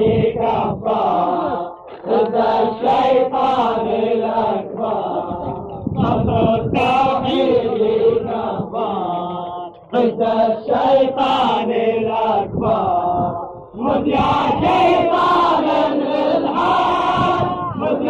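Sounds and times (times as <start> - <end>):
group of voices chanting: 0.0 - 18.0.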